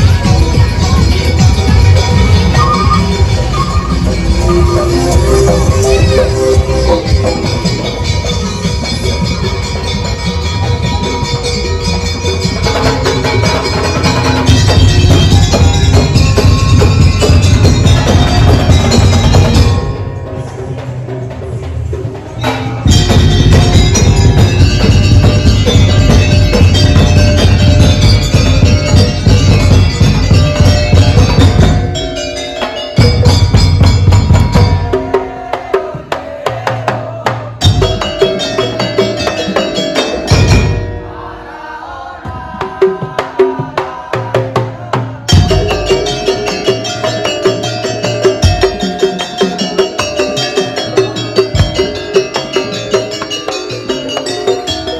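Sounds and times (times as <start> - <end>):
percussion band drums: 0.0 - 54.9.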